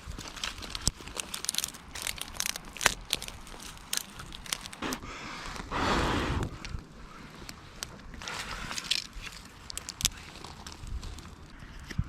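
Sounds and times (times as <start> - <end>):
campfire crackling and popping: 0.0 - 5.6, 6.6 - 11.6.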